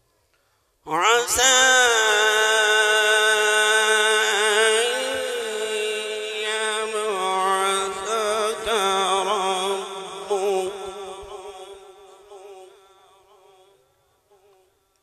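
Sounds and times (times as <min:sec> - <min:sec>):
man reciting melodically: 0:00.8 - 0:13.8.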